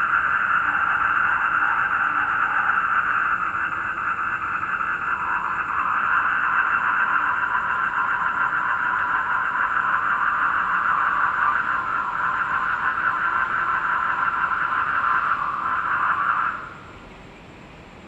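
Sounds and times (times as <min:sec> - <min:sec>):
toads trilling: 0:00.0 - 0:16.9.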